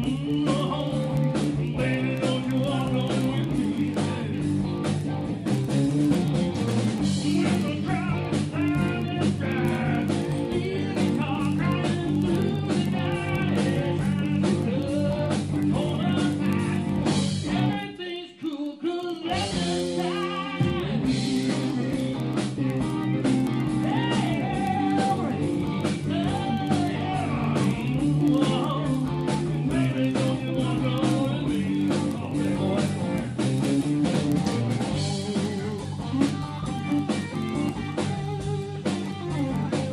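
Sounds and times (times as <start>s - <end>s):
person singing: 0.0s - 4.8s, 7.0s - 33.4s, 35.0s - 39.9s
steady drum beat: 0.0s - 17.8s, 19.3s - 39.9s
guitar: 0.0s - 39.9s.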